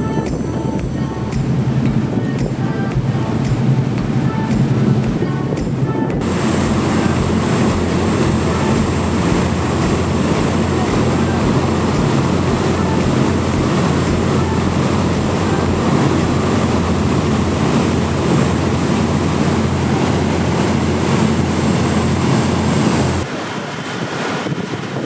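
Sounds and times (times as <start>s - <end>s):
boat engine droning: 0.0s - 25.0s
water noise: 0.0s - 25.0s
wind: 0.0s - 25.0s.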